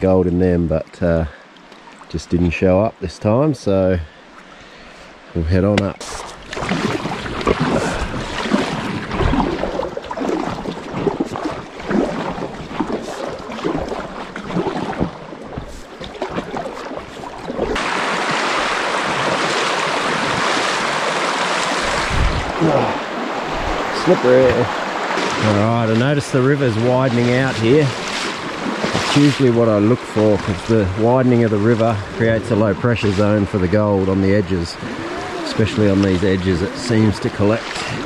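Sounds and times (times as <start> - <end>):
splashing of wading through water: 5.8 - 38.0
fast-flowing river water rushing: 6.2 - 38.0.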